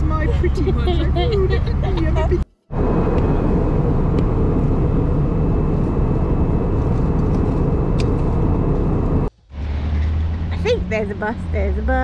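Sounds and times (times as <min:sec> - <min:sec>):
vehicle rumble and rush: 0:00.0 - 0:12.0.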